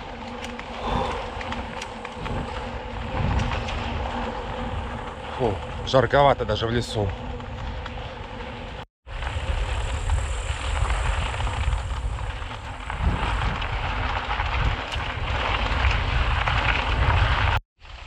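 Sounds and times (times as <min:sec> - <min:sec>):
bike tyres churning through mud: 0:00.0 - 0:18.0.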